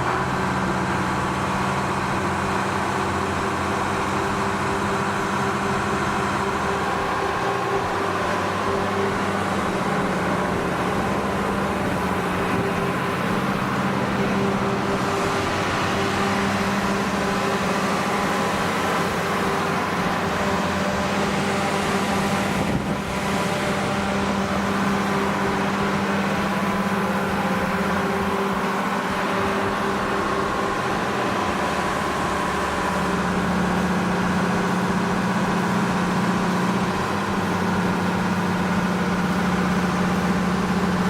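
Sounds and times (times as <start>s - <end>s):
diesel generator engine droning: 0.0s - 41.0s.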